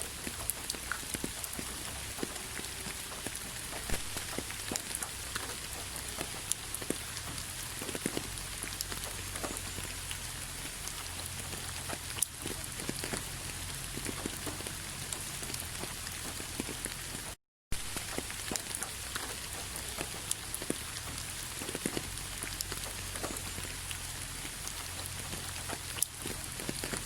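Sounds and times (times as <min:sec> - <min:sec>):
raindrops tapping on a surface: 0:00.0 - 0:27.0
steady rain: 0:00.0 - 0:27.0.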